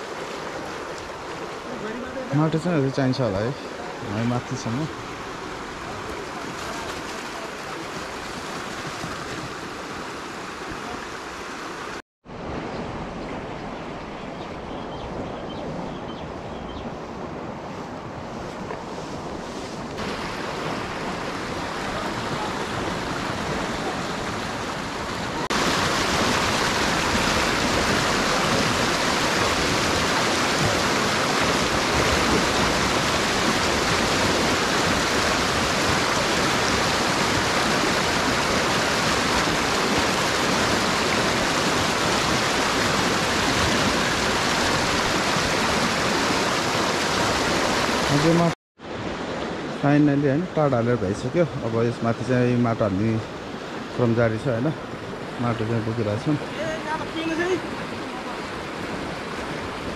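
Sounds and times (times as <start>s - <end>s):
rushing river water: 0.0s - 59.9s.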